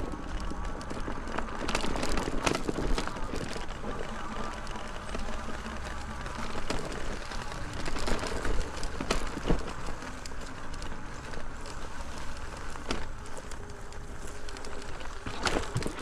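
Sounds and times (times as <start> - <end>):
tyre and wind noise: 0.0 - 16.0.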